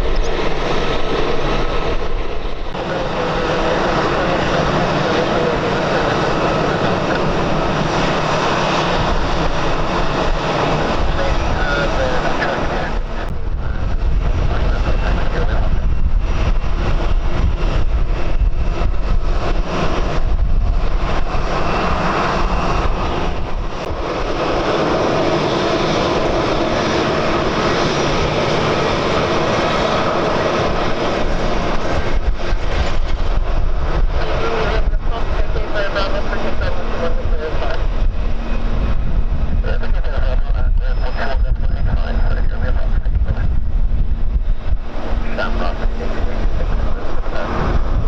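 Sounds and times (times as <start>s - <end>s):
jet engines whining: 0.0s - 48.0s
wind buffeting microphone: 0.0s - 48.0s.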